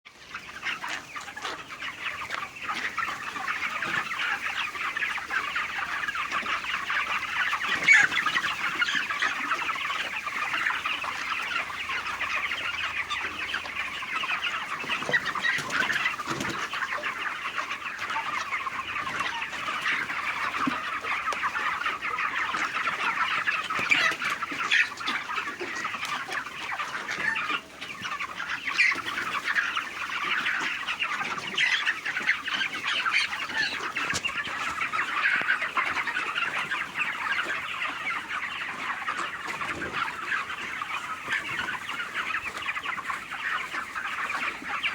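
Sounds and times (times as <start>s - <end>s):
chickens clucking: 0.1s - 44.9s.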